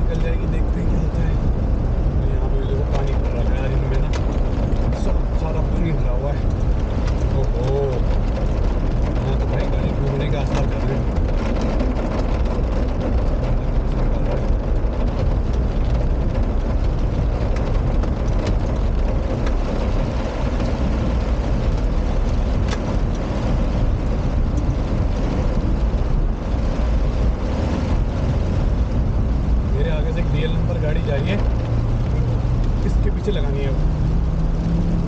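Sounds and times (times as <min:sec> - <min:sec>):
car engine idling: 0:00.0 - 0:35.0
heavy rain: 0:00.0 - 0:35.0.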